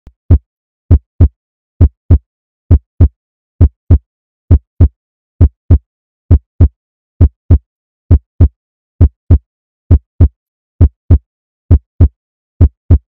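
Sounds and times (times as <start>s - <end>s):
heartbeat lub-dub thumps: 0.3s - 13.0s.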